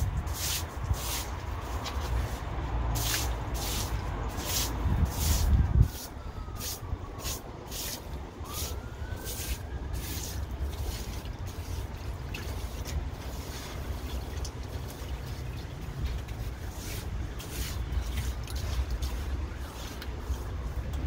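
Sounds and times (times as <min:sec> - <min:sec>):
broom sweeping wet concrete: 0:00.0 - 0:21.0.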